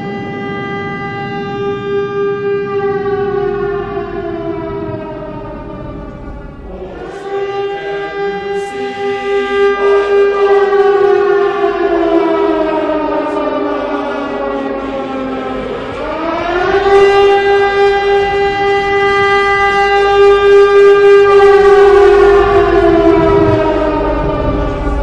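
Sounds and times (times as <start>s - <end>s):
civil defense siren wailing: 0.0s - 25.0s.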